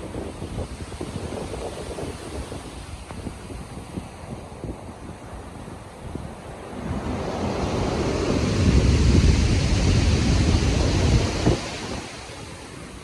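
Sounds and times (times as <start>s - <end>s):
wave breaking in surf: 0.0s - 13.0s
wind: 0.0s - 13.0s.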